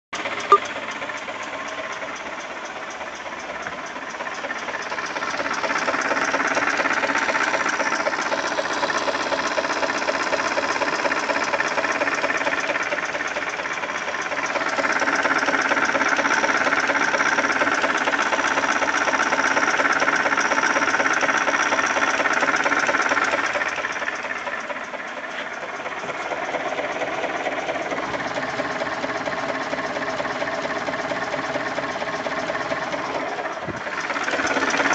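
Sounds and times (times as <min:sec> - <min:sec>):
fast repetitive engine knock: 0:00.2 - 0:34.9
petrol engine revving: 0:04.2 - 0:34.9.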